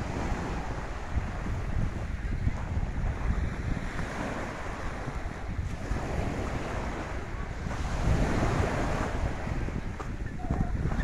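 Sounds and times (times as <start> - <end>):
small waves breaking on shore: 0.0 - 11.0
wind buffeting microphone: 0.0 - 11.0.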